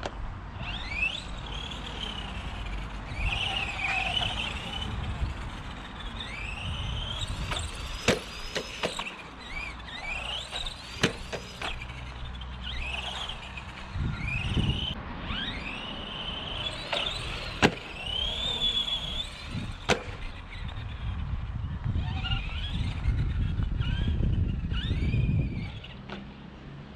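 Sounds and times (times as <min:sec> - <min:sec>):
electric motor whining: 0:00.0 - 0:26.3.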